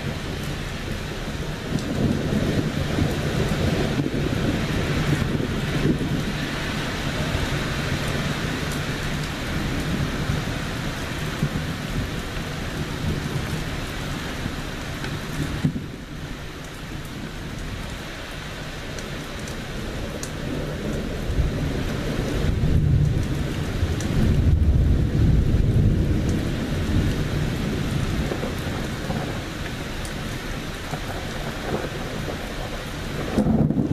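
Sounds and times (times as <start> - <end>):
thunder rolling: 0.0 - 14.6, 15.4 - 16.0, 19.8 - 33.9
rain falling: 0.0 - 33.9.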